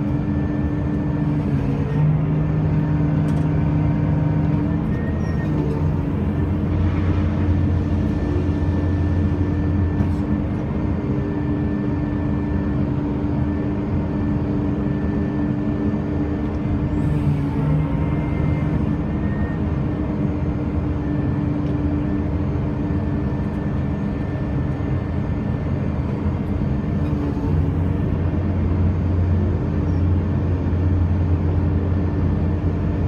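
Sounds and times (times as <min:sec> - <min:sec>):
crane mechanical drone: 0:00.0 - 0:33.0.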